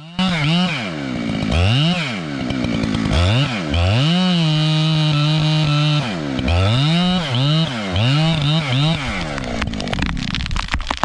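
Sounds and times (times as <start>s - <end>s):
chainsaw engine revving: 0.0s - 10.6s.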